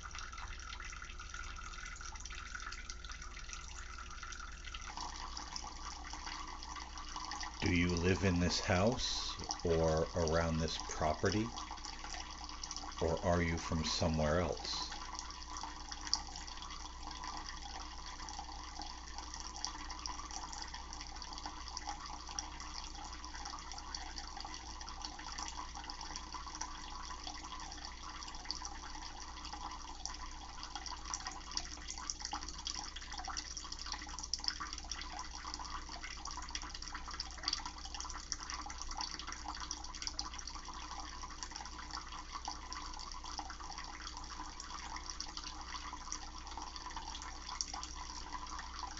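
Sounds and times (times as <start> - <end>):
tap water running into a bowl: 0.0 - 48.9.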